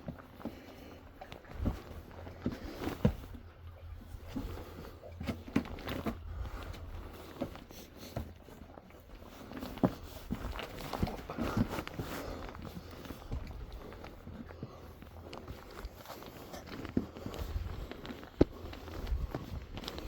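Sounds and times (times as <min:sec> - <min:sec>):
footsteps on rocks: 0:00.0 - 0:20.0.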